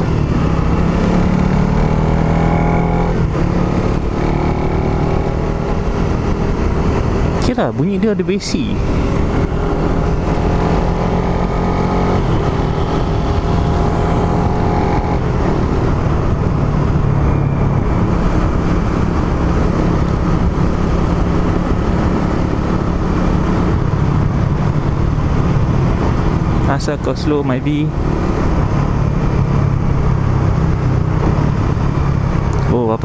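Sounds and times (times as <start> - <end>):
motorcycle engine accelerating: 0.0 - 32.8
wind and road rush: 0.0 - 33.0.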